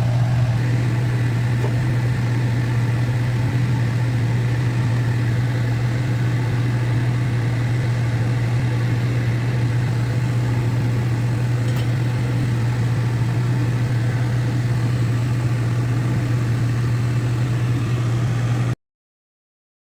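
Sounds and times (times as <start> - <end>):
low mechanical hum: 0.0 - 18.8.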